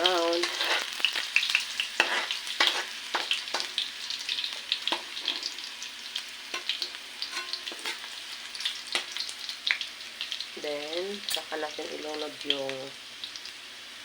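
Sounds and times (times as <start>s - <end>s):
garlic sizzling in oil: 0.0s - 14.0s.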